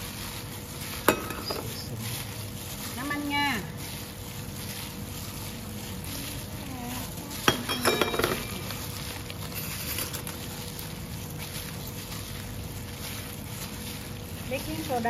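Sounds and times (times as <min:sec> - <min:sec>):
meat mixed by hand in metal bowl: 0:00.0 - 0:15.0
steady background hum: 0:00.0 - 0:15.0.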